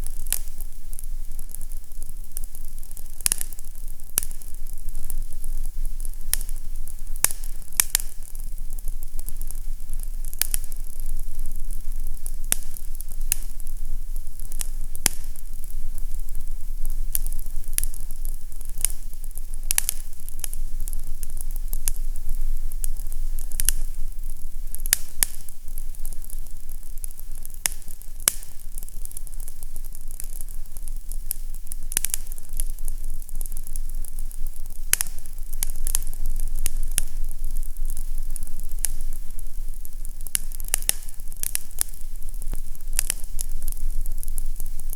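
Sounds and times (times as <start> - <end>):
fire crackling and popping: 0.0 - 44.9
low steady rumble: 0.0 - 44.9
steady hiss: 0.0 - 44.9.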